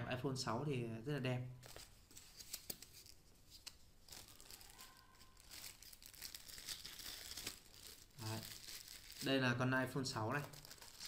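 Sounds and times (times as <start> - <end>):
plastic sleeve crinkling: 1.6 - 11.0.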